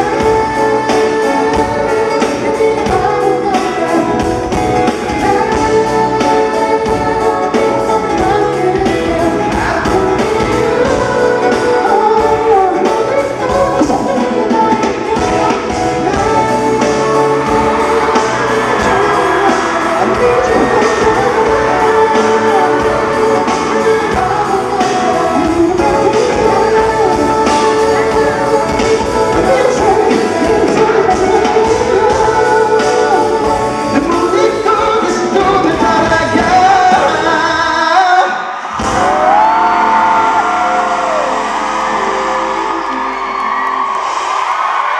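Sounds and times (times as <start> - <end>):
man singing: 0.0 - 39.3.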